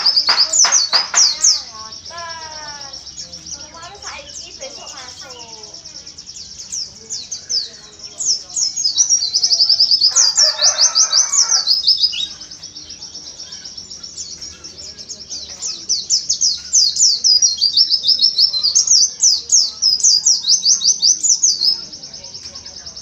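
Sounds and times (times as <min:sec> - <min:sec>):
bird chirping rapidly: 0:00.0 - 0:23.0.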